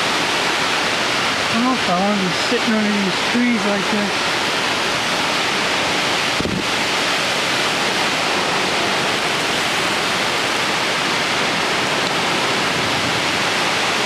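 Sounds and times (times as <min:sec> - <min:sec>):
heavy rain hissing: 0:00.0 - 0:14.0
storm winds: 0:00.0 - 0:14.0.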